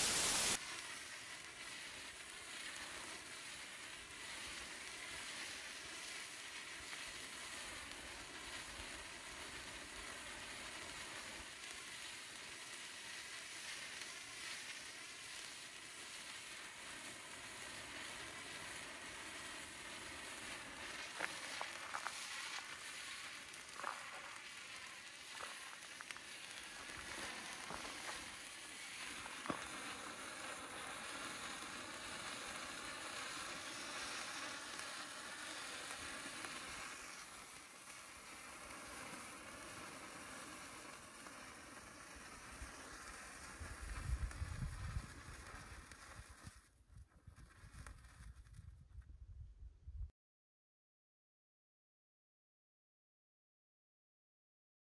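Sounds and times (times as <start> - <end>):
sparkler fizzing: 0.0 - 46.7
sharp pops and crackles: 0.0 - 49.0.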